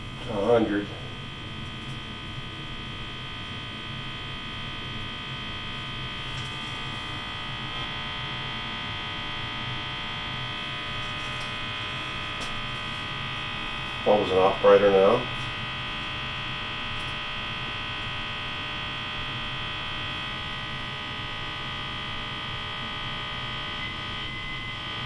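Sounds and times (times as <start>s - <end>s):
radio speaker buzzing hum: 0.0s - 25.0s.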